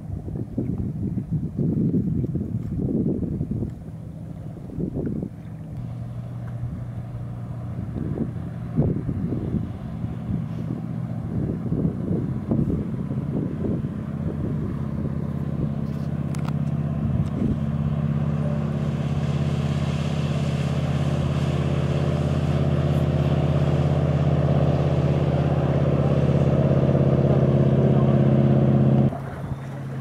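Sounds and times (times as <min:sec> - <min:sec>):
speedboat engine running: 0:00.0 - 0:30.0.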